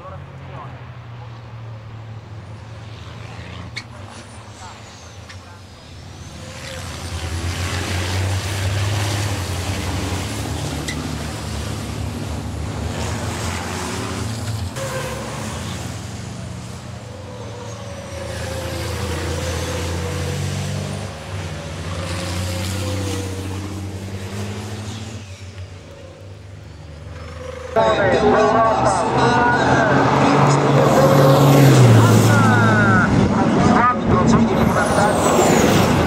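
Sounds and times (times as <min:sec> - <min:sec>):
truck engines passing at speed: 0:00.0 - 0:36.0.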